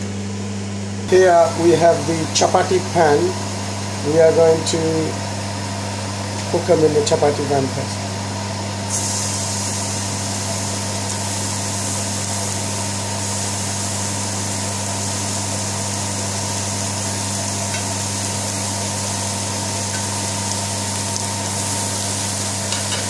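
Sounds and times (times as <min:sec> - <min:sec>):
extractor fan humming: 0:00.0 - 0:23.0.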